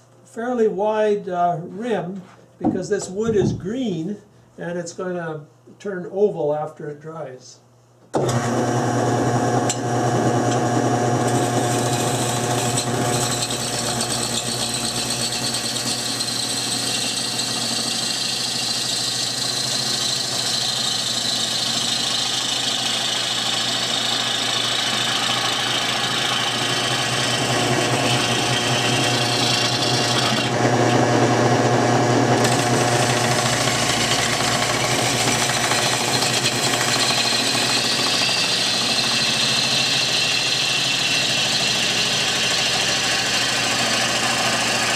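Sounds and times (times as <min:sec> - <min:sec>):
lathe motor hum: 0:08.2 - 0:44.9.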